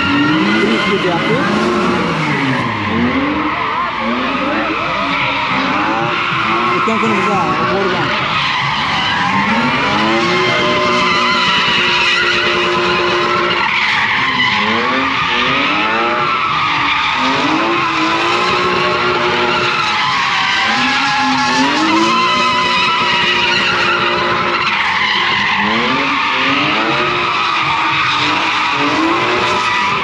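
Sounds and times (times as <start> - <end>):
car engine revving: 0.0 - 30.0
tyres squealing: 0.0 - 30.0.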